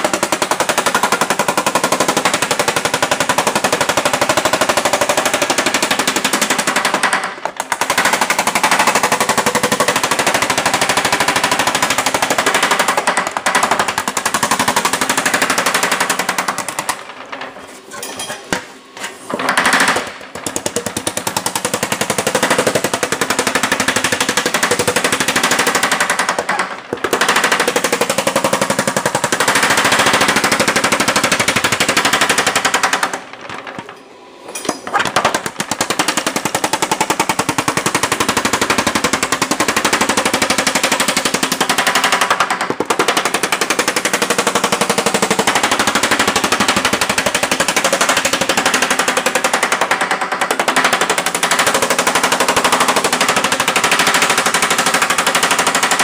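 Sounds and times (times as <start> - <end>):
power hammer pounding sheet metal: 0.0 - 34.0, 34.6 - 56.0.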